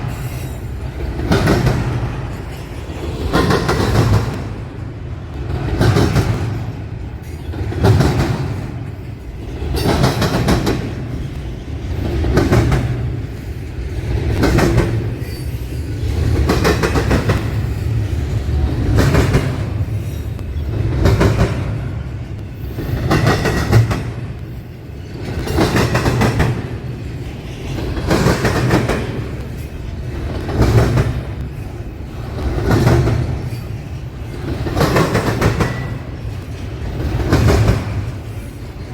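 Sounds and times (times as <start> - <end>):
train wheels clattering over crossing: 0.0 - 38.9.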